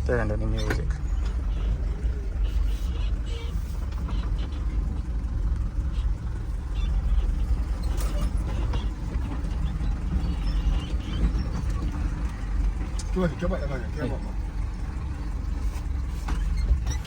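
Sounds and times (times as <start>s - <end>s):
truck engine and road rumble: 0.0s - 17.0s
light rattles: 0.4s - 17.0s.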